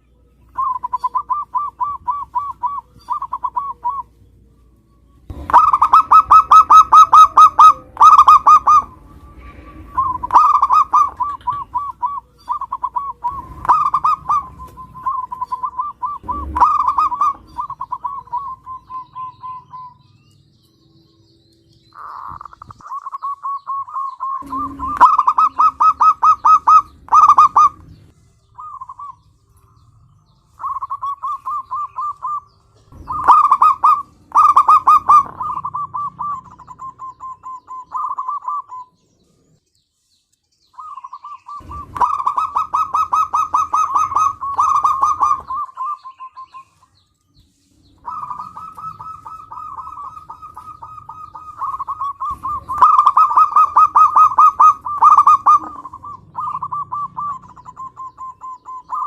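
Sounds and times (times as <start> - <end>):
dove cooing: 0.0 - 20.3, 21.9 - 29.9, 30.5 - 39.0, 40.8 - 47.0, 47.9 - 59.0.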